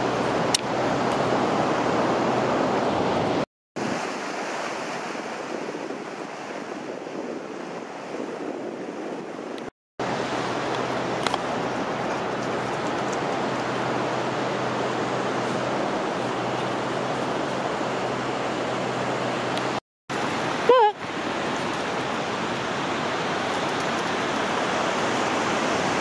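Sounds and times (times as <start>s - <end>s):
surf on the shore: 0.0s - 26.0s
wind noise: 0.0s - 26.0s.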